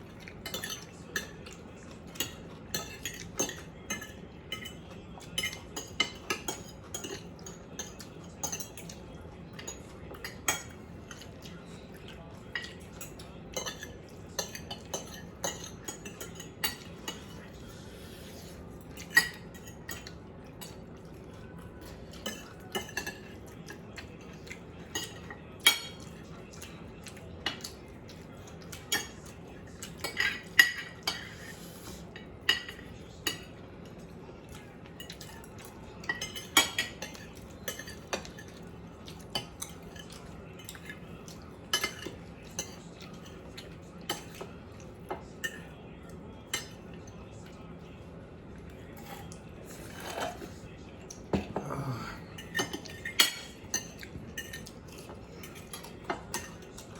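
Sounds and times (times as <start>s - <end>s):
cutlery clinking on plates: 0.1s - 45.8s, 46.4s - 47.6s, 48.9s - 56.9s.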